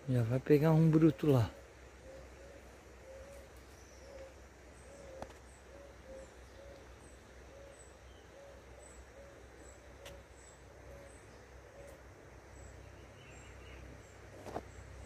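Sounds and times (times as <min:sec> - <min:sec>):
bird hooting: 0:00.6 - 0:14.0.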